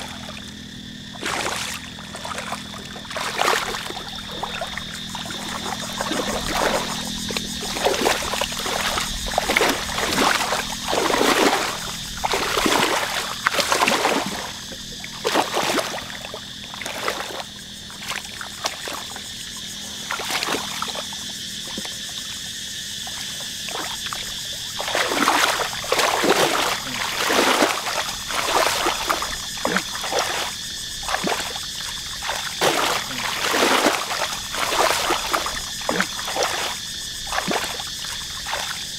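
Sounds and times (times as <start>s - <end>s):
splashing in muddy water: 0.0s - 38.9s.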